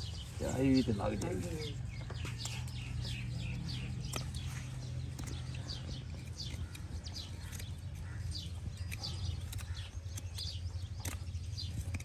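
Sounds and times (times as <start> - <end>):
small birds chirping: 0.0 - 12.0
blade clicking on horseshoe: 2.2 - 12.0.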